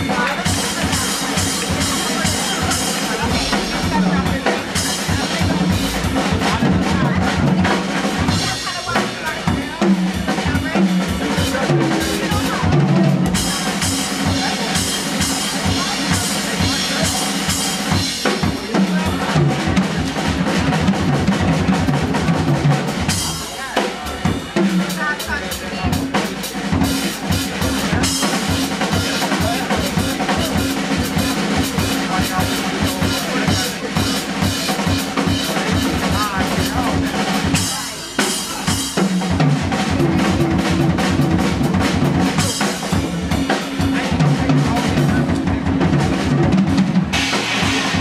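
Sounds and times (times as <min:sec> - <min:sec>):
jazz drum kit playing fast: 0:00.0 - 0:48.0.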